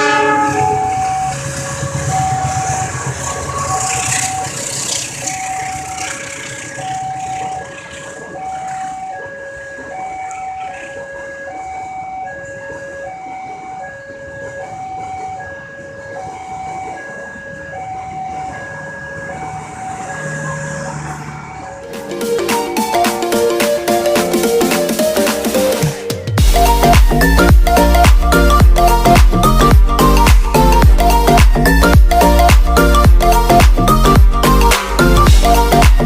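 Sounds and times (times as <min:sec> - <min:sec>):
level crossing two-tone alarm: 0:00.0 - 0:36.0
passing train rumble: 0:00.0 - 0:36.0.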